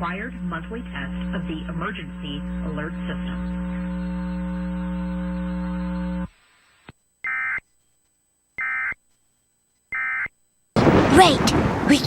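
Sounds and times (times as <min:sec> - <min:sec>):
steady electrical hum: 0:00.0 - 0:10.7.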